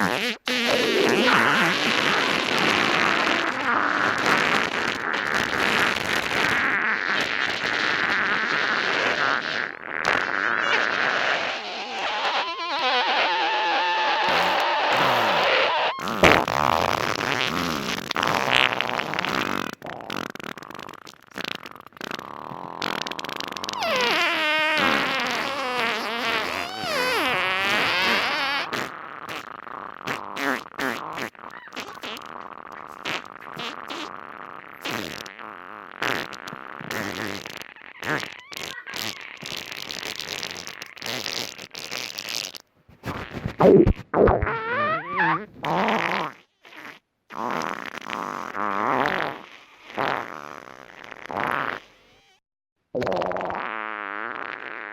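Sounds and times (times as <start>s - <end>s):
human farts: 0.0s - 54.9s.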